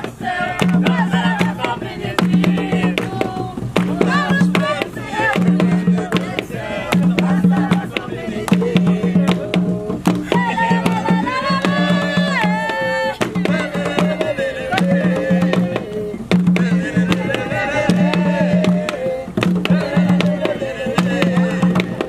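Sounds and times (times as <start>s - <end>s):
hand drums beaten: 0.0s - 22.0s
sharp drum slaps: 0.0s - 22.0s
voices singing: 0.0s - 22.0s.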